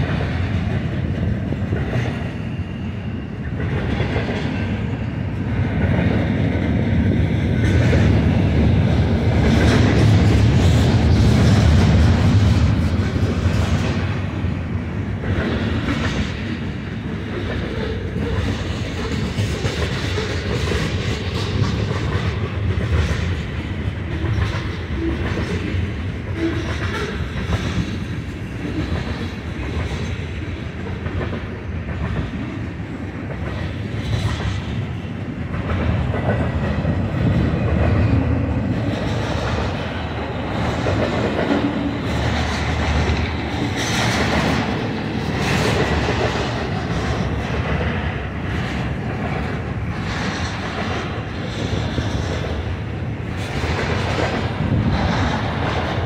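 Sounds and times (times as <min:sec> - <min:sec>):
wheels clickety-clack: 0:00.0 - 0:02.4, 0:03.5 - 0:14.4, 0:15.0 - 0:56.0
freight train rumbling past: 0:00.0 - 0:56.0.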